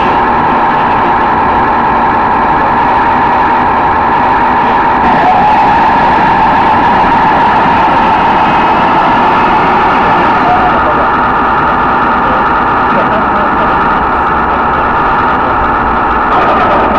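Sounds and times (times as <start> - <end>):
model tank mechanical drone: 0.0 - 16.9.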